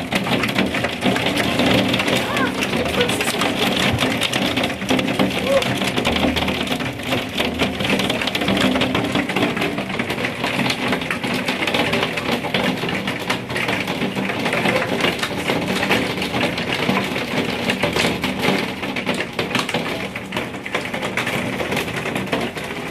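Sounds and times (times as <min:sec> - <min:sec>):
hailstones pelting hard surfaces: 0:00.0 - 0:22.9.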